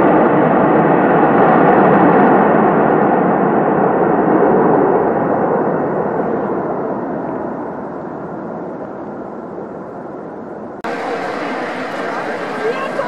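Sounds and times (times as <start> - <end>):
jet engine rush: 0.0 - 13.0.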